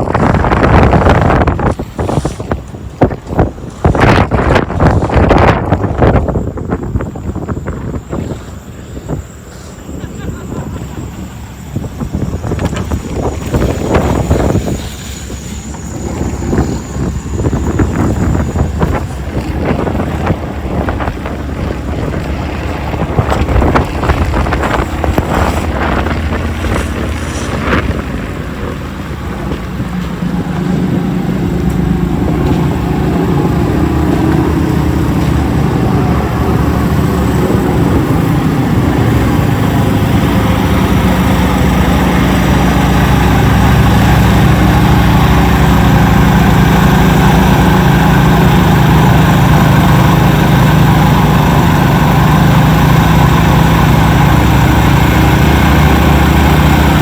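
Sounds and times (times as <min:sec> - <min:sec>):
heavy vehicle engine running: 0:00.0 - 0:57.0
wind buffeting microphone: 0:00.0 - 0:57.0.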